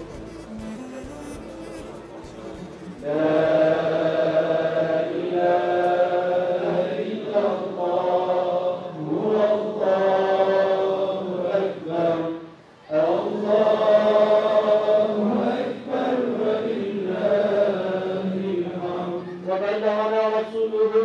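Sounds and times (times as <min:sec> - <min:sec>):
religious chanting: 0:00.0 - 0:21.0.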